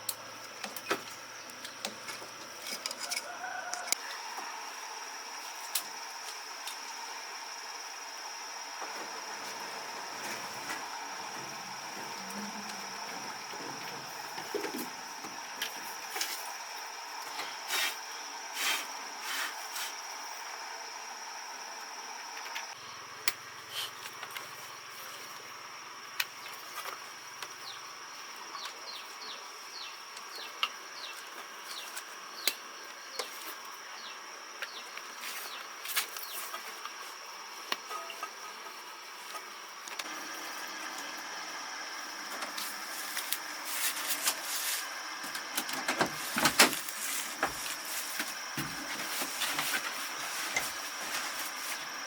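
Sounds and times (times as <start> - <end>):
crickets trilling: 0.0 - 52.0.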